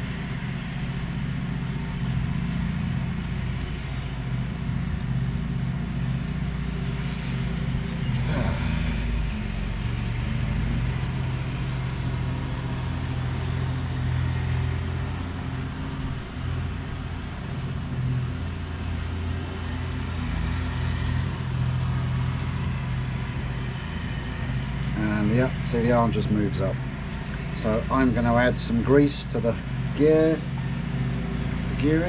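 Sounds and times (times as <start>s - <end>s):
electric actuator motor running: 0.0s - 32.0s.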